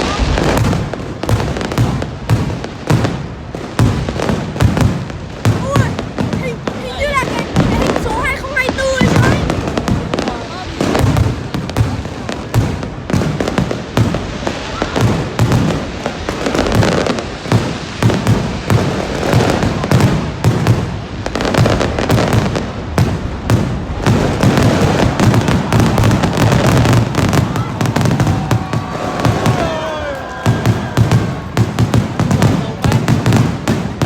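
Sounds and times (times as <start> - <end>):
fireworks bangs and pops: 0.0 - 34.0.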